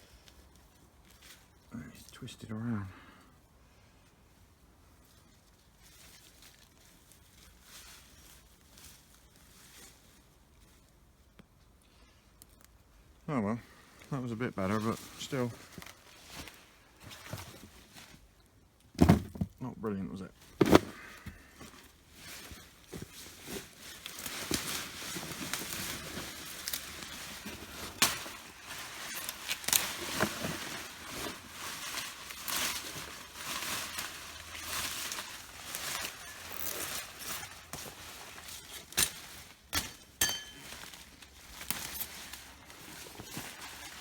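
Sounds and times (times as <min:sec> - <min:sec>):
soil and vines rustling while dug: 0:00.0 - 0:02.8, 0:04.0 - 0:19.6, 0:20.2 - 0:44.0.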